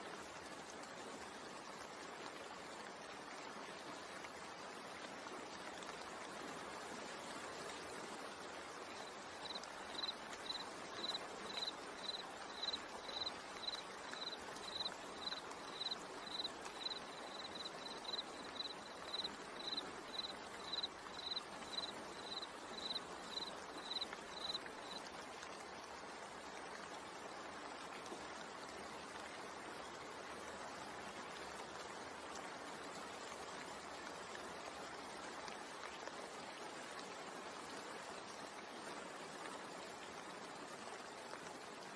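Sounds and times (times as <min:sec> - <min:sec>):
rain and water: 0:00.0 - 0:41.9.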